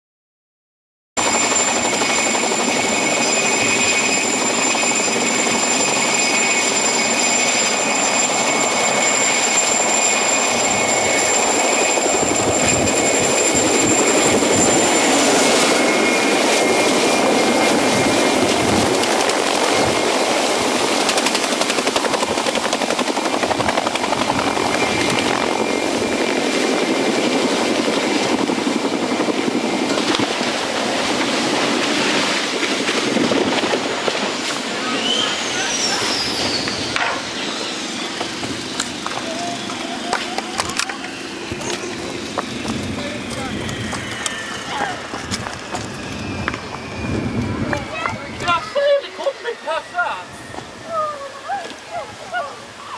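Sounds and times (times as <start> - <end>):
helicopter rotor rushing: 1.2 - 52.9
helicopter turbine whine: 1.2 - 52.9.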